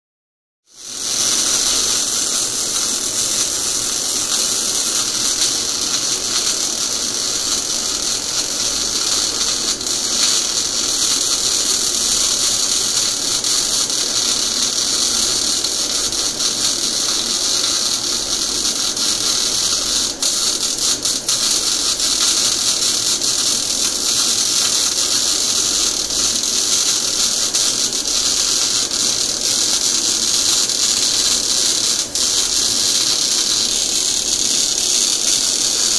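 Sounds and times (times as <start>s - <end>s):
welding arc hissing and crackling: 0.7s - 35.9s.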